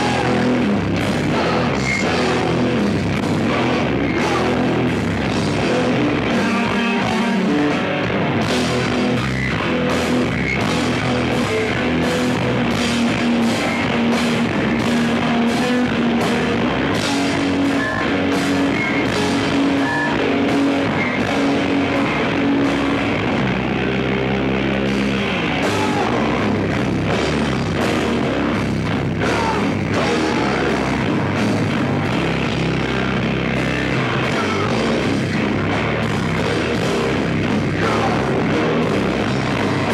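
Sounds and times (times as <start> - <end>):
distorted electric guitar: 0.0 - 39.9
drum kit with cymbal hits: 0.0 - 39.9
electric bass: 0.0 - 39.9.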